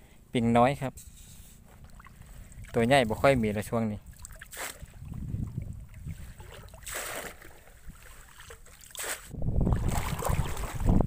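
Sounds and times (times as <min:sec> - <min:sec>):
person wading through water: 0:01.6 - 0:11.0.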